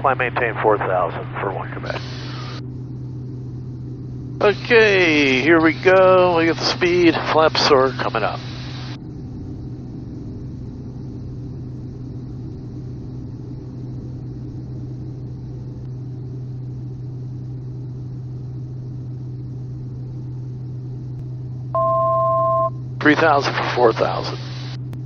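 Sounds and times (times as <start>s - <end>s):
turboprop engine drone: 0.0s - 25.0s.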